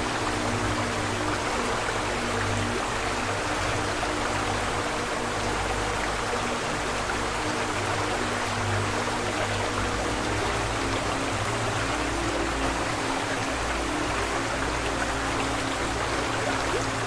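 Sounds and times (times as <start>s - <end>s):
flowing water rushing: 0.0s - 17.0s
soft background music: 0.0s - 17.0s.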